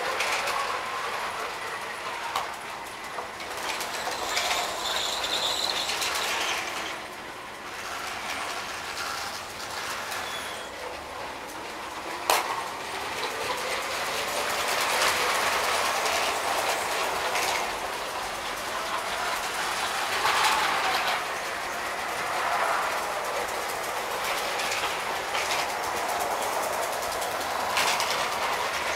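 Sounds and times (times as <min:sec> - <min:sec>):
model trains clattering on track: 0:00.0 - 0:28.9.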